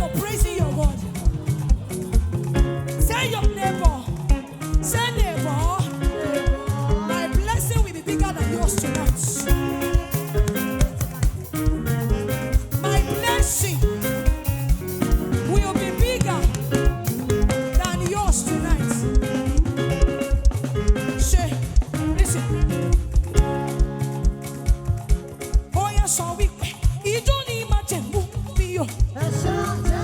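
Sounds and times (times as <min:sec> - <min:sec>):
fast drum beat: 0:00.0 - 0:30.0
live praise band music: 0:00.0 - 0:30.0.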